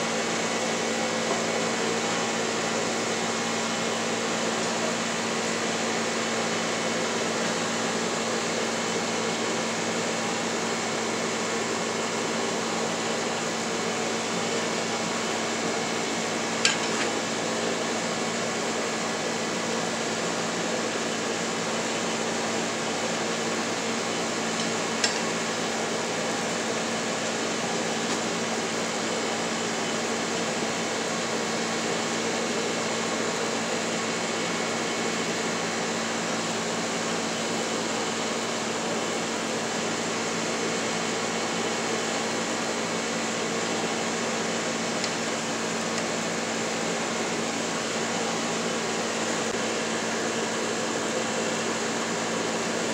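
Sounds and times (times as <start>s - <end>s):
air blower humming: 0.0s - 52.9s.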